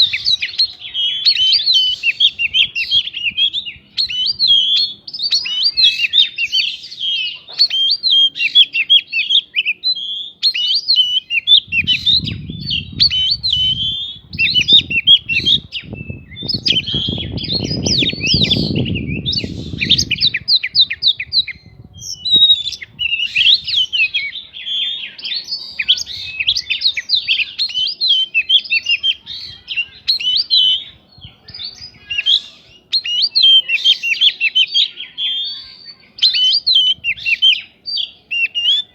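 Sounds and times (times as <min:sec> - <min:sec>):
bird singing chirps and whistles: 0:00.0 - 0:38.9.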